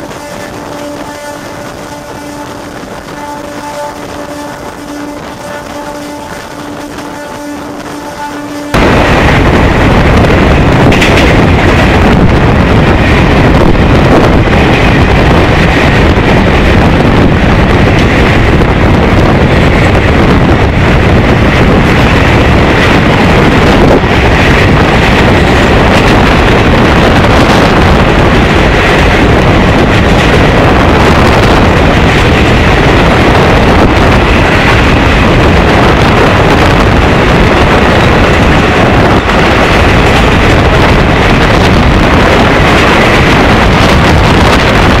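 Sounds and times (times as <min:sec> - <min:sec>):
train wheel-on-rail rumble: 0:00.0 - 0:45.0
wind buffeting microphone: 0:00.0 - 0:45.0
wind rush: 0:00.0 - 0:45.0.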